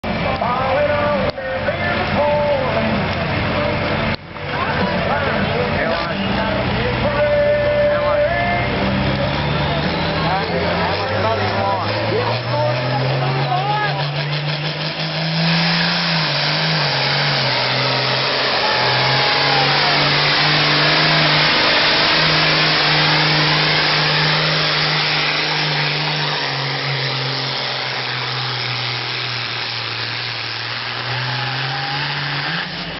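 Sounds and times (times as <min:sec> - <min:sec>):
tractor engine under load: 0:00.0 - 0:32.9.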